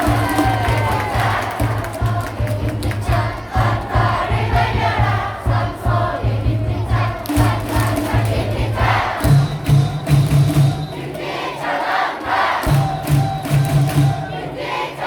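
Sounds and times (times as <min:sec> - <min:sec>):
crowd singing in unison: 0:00.0 - 0:15.0
low rhythmic beat: 0:00.0 - 0:15.0.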